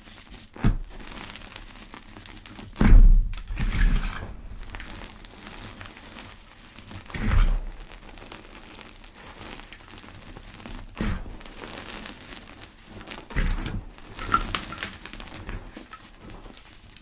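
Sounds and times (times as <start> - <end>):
chalk crushed by hand: 0.2 - 16.6.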